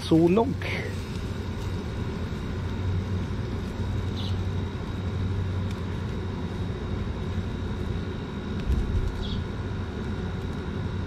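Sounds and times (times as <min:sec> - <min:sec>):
faint high whine: 0:00.0 - 0:11.0
low background rumble: 0:00.0 - 0:11.0.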